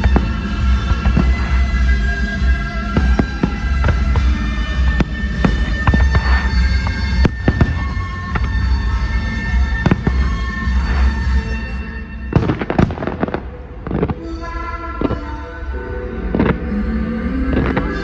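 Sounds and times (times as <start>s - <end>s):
fireworks bangs: 0.0s - 18.0s
loud music with heavy bass: 0.0s - 18.0s.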